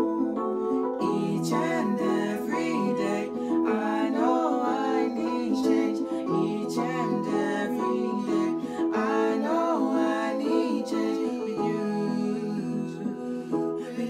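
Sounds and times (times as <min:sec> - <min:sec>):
electric keyboard chords: 0:00.0 - 0:14.0
two men singing: 0:00.9 - 0:14.0.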